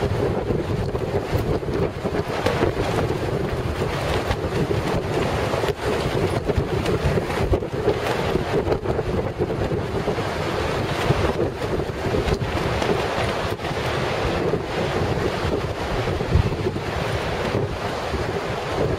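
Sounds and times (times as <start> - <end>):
heavy surf washing: 0.0 - 18.9
wind buffeting microphone: 0.0 - 18.9.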